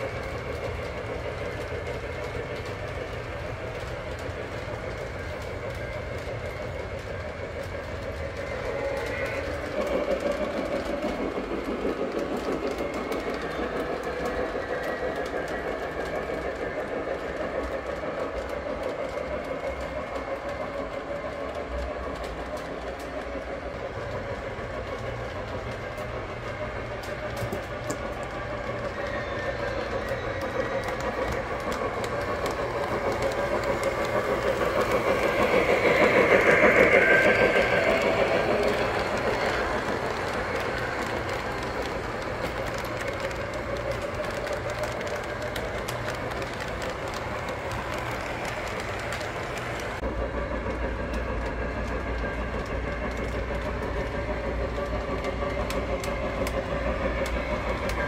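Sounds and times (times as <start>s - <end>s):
model train rumbling on track: 0.0s - 58.0s
wheels clicking over track: 0.0s - 58.0s.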